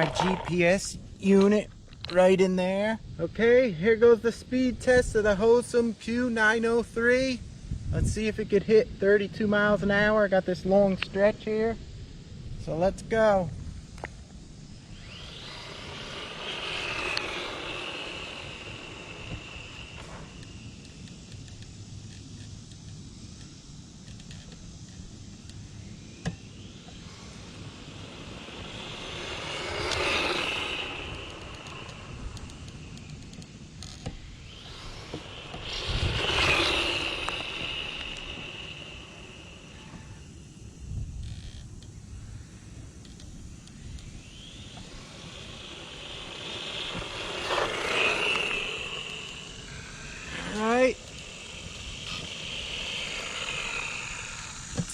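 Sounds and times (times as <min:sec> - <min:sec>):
rc truck motor whine: 0:00.0 - 0:08.3, 0:09.0 - 0:54.9.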